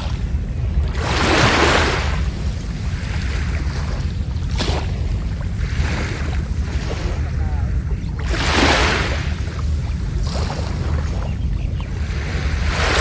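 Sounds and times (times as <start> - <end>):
waves washing onto beach: 0.0 - 13.0
wind rumble on microphone: 0.0 - 13.0.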